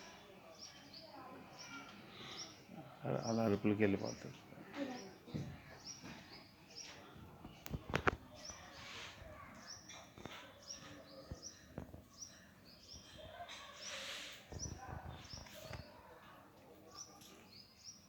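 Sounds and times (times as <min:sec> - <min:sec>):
lovebirds chirping: 0:00.0 - 0:18.0.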